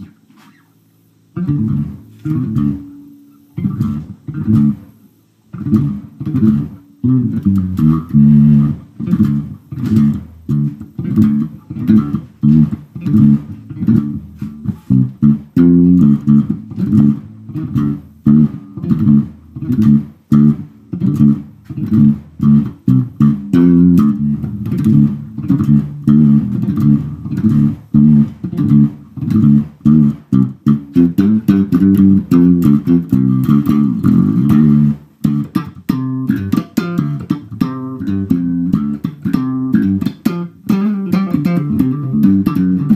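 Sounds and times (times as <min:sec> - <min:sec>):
funk electric bass playing: 0:00.0 - 0:42.9.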